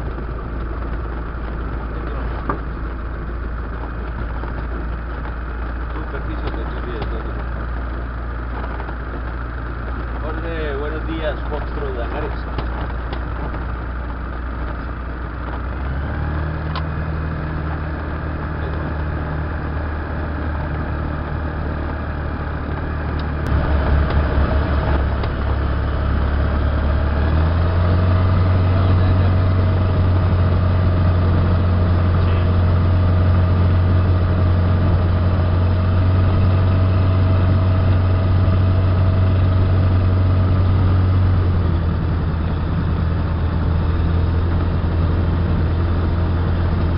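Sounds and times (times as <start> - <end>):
propeller engine running: 0.0 - 46.9.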